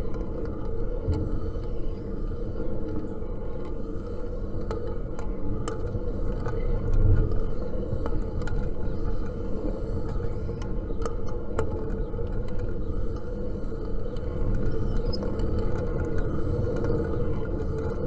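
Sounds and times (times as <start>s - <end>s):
fan whirring drone: 0.0s - 18.0s.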